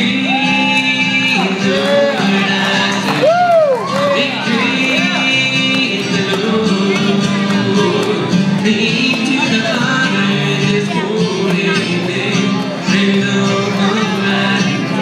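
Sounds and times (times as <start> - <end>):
acoustic guitars strummed: 0.0 - 15.0
man singing: 0.0 - 15.0.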